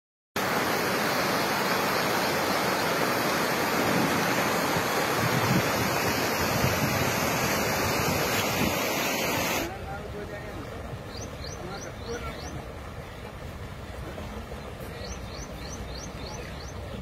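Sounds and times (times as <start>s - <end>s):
stream rushing over stones: 0.4s - 17.0s.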